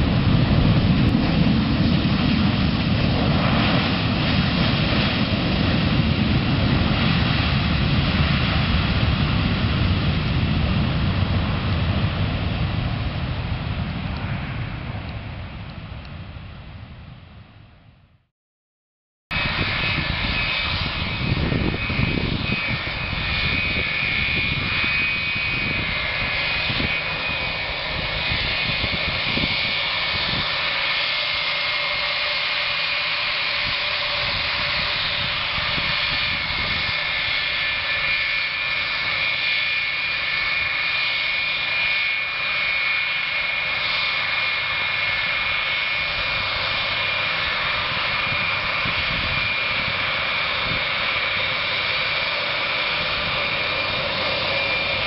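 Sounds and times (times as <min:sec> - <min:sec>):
jet engines whining: 0:00.0 - 0:17.8, 0:19.3 - 0:55.0.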